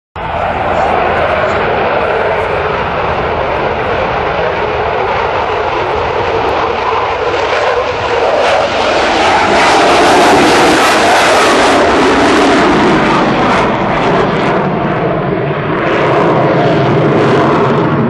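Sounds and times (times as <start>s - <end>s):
jet engine roar: 0.2s - 18.0s.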